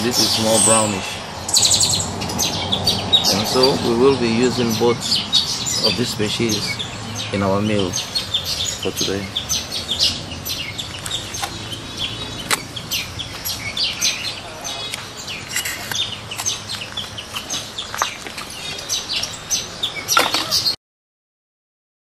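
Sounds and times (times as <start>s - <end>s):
birds chirping: 0.0s - 20.8s.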